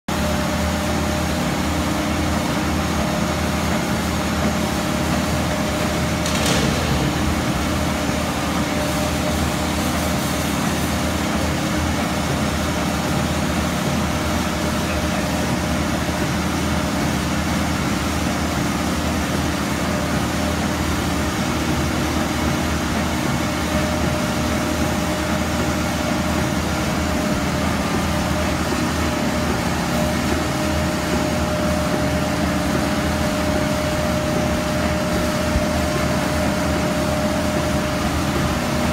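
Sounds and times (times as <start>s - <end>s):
diesel engine drone with whine: 0.1s - 38.9s.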